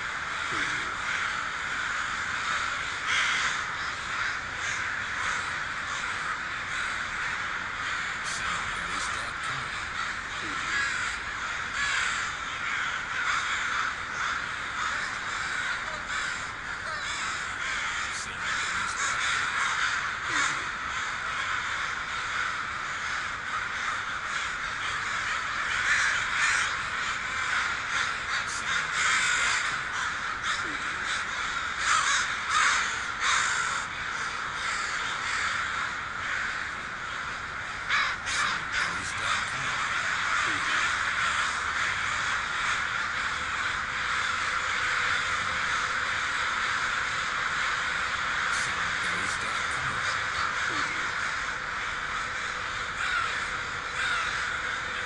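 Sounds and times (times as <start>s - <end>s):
crows cawing: 0.0s - 55.0s.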